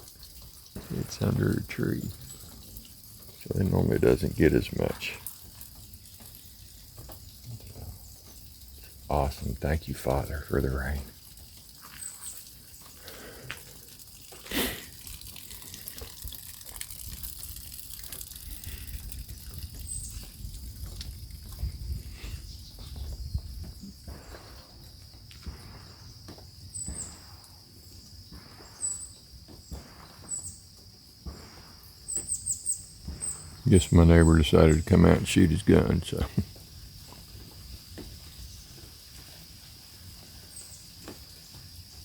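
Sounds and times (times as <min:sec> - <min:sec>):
water trickling and dripping: 0:00.0 - 0:42.0.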